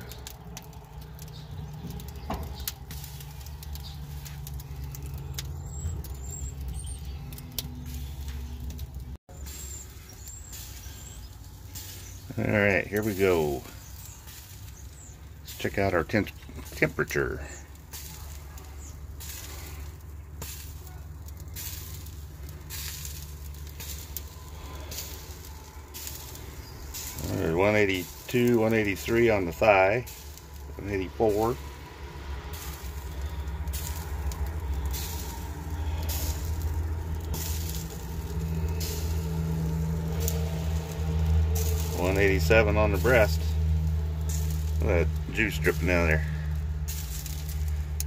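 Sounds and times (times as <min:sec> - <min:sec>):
fat sizzling and hissing: 0:00.0 - 0:48.0
steady low hum: 0:00.0 - 0:48.0.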